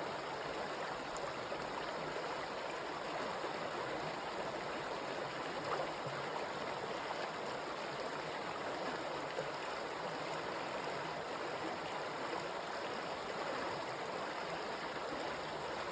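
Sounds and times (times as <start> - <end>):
stream water rushing and babbling: 0.0 - 15.9.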